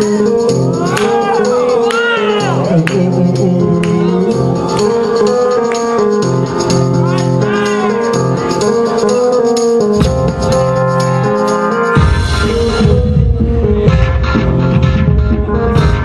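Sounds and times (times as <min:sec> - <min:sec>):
dance music over sound system: 0:00.0 - 0:16.0
deep bass line: 0:02.3 - 0:16.0.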